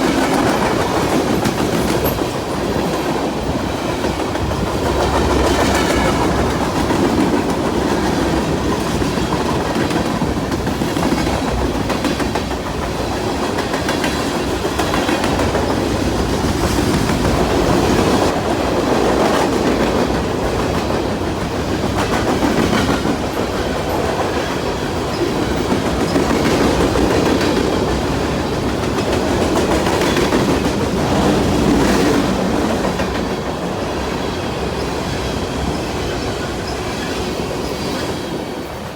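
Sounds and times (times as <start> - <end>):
clickety-clack over rail joints: 0.0 - 38.9
train wheels rumbling on rails: 0.0 - 38.9.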